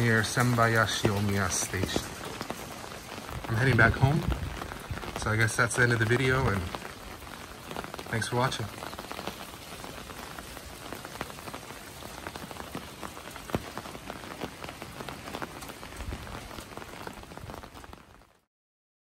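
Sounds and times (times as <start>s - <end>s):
rain pattering: 0.0s - 18.5s.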